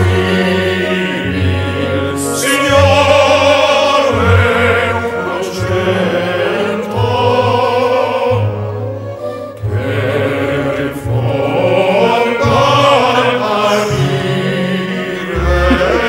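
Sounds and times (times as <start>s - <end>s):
men singing in chorus: 0.0s - 8.6s, 9.7s - 16.0s.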